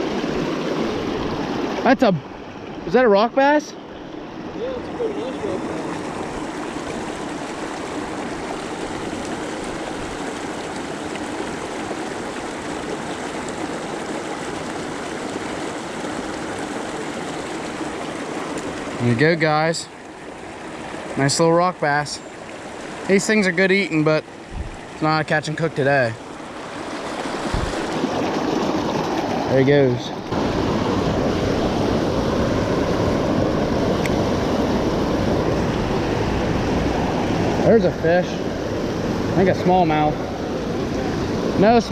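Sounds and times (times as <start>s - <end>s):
creek water rushing: 0.0s - 41.9s.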